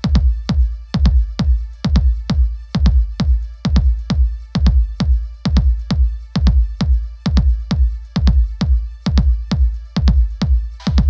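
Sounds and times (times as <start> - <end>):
electronic music: 0.0 - 11.0
heavy kick-drum beat: 0.0 - 11.0.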